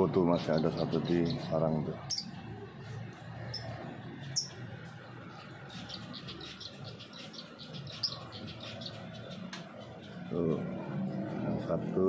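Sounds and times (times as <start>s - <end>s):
finches chirping: 0.4s - 10.8s.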